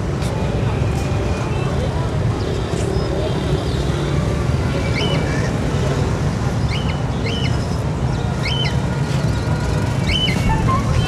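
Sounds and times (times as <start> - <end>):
market noise: 0.0 - 11.0
traffic rumble: 0.0 - 11.0.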